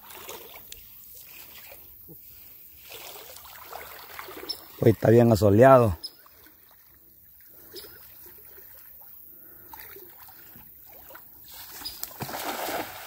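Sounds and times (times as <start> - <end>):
person wading through water: 0.0 - 5.2, 5.9 - 13.0.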